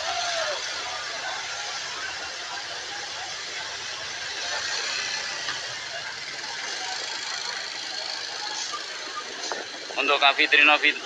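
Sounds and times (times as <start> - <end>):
crowd voices: 0.0 - 11.0
engines running: 0.0 - 11.0.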